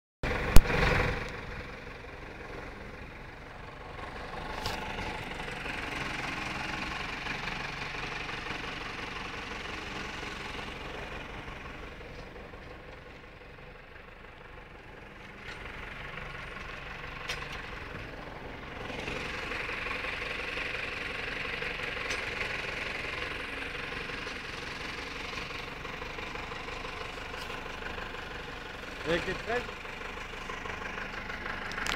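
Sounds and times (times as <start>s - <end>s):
tractor engine running: 0.2s - 31.9s.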